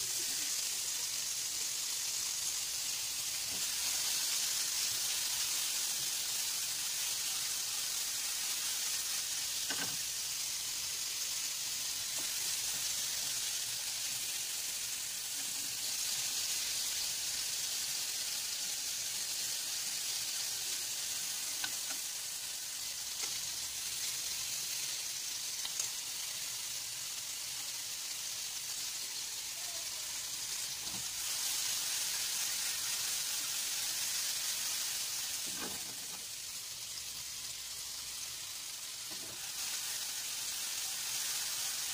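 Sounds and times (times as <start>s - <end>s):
sausages sizzling in a pan: 0.0s - 41.9s.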